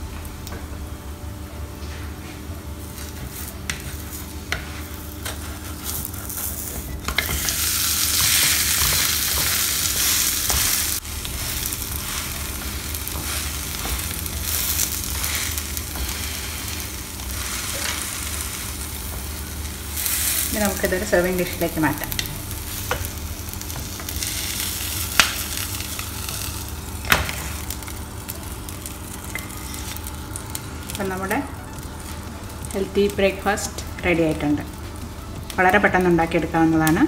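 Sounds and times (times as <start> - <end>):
bread frying in oil: 1.9 - 37.0.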